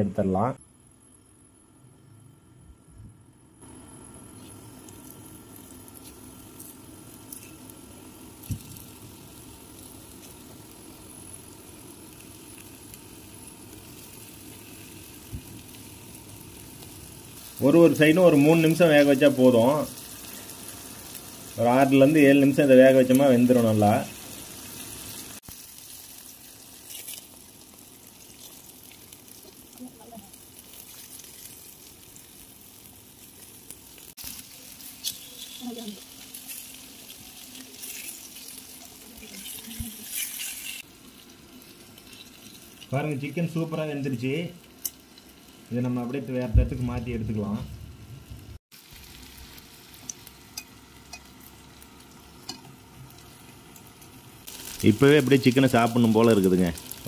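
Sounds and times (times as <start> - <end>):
chicken frying in oil: 3.6 - 57.0.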